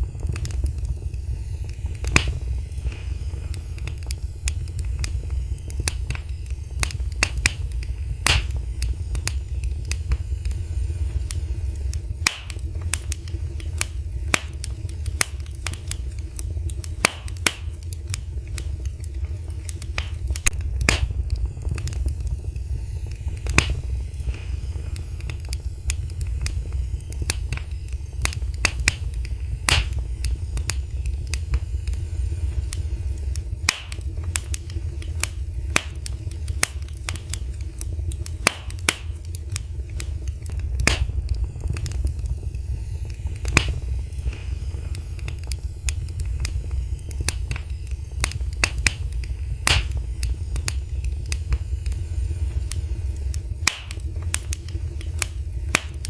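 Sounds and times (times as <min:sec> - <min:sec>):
fire pops and snaps: 0:00.0 - 0:56.0
low fire rumble: 0:00.0 - 0:56.0
wood fire crackling: 0:00.0 - 0:56.0.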